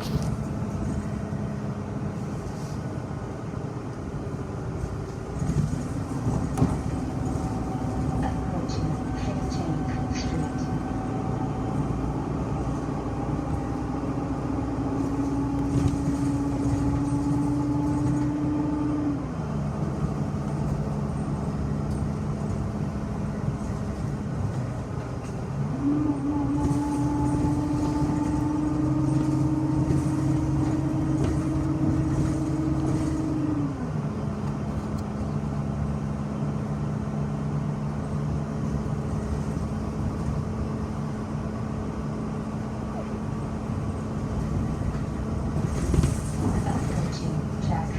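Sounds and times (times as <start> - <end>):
bus engine and drivetrain: 0.0 - 47.9
low road rumble: 0.0 - 47.9.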